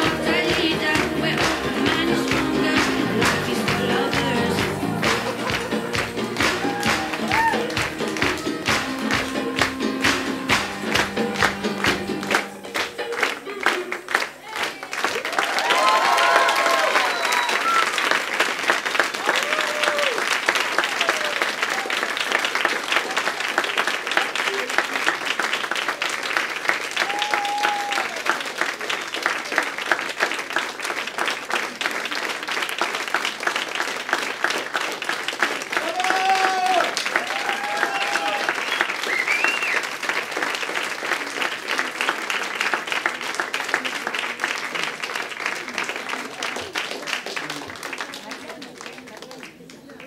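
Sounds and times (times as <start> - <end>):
audience clapping: 0.0 - 50.0
crowd applauding: 0.0 - 50.0.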